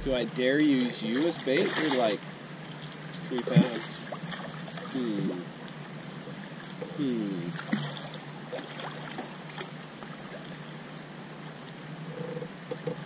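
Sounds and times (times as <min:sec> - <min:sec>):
creek water trickling over rocks: 0:00.0 - 0:10.8.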